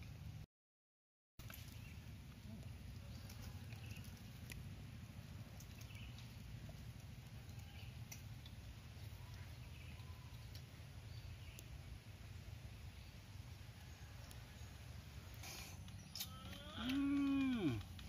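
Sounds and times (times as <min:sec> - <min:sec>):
low outdoor rumble: 0:01.4 - 0:18.0.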